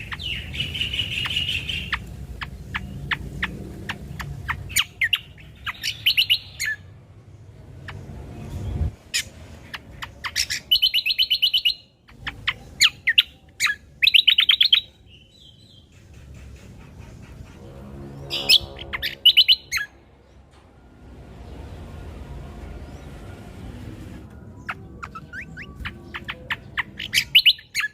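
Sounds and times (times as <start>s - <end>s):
songbird chirping and trilling: 0.0s - 27.9s.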